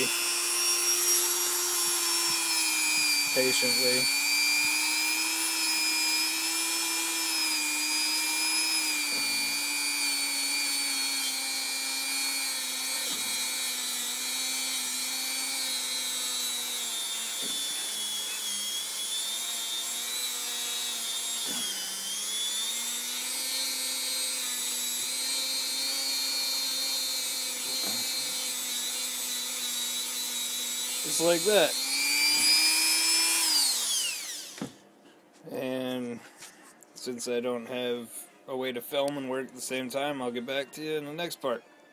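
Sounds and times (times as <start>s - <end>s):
rotary tool brush whining: 0.0s - 34.8s.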